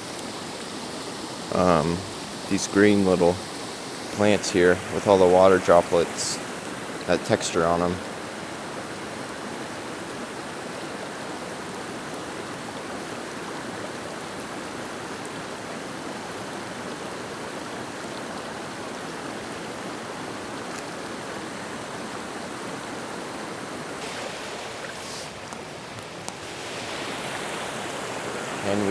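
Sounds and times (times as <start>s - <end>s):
river rushing over rocks: 0.1s - 28.9s.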